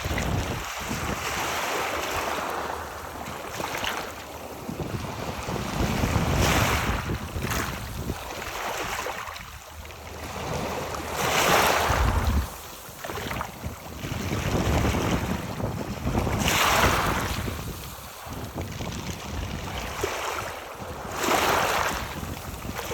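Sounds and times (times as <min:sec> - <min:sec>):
waves washing over rocks: 0:00.0 - 0:22.9
wind buffeting microphone: 0:00.0 - 0:22.9.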